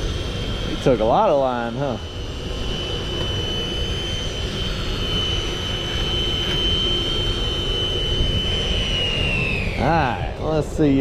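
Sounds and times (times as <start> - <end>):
fishing reel motor whining: 0.0 - 11.0.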